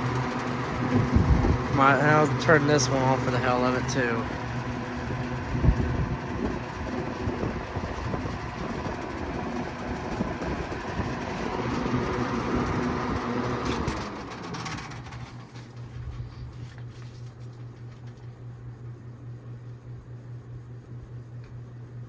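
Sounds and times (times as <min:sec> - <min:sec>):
rush of air from fan blades: 0:00.0 - 0:18.3
fan motor hum: 0:00.0 - 0:22.0.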